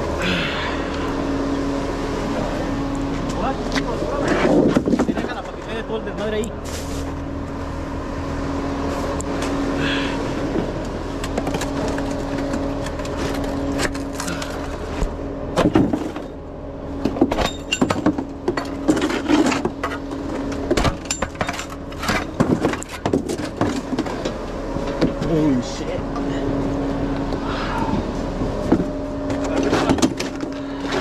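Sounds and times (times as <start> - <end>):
concrete pump engine hum: 0.0 - 31.0.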